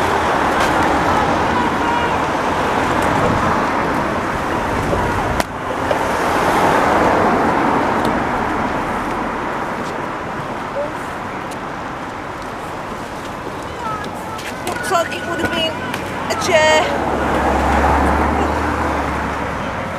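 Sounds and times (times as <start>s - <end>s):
road traffic going by: 0.0s - 19.9s.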